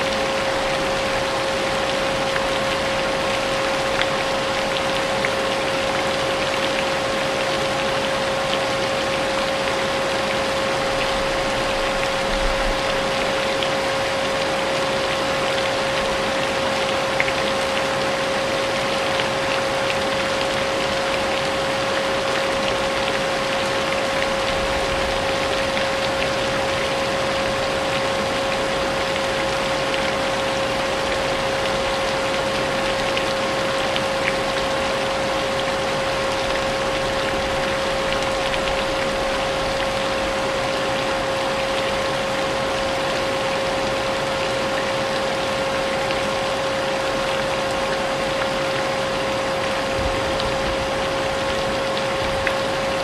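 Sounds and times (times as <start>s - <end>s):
rain hissing: 0.0s - 53.0s.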